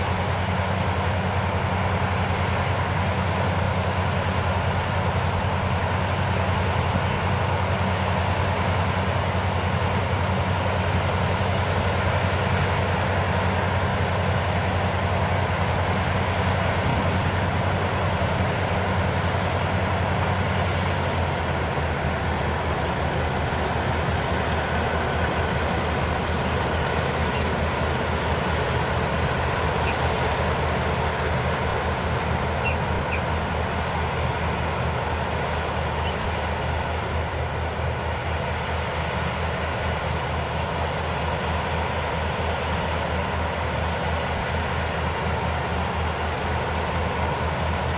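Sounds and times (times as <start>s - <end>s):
combine harvester engine drone: 0.0s - 47.9s.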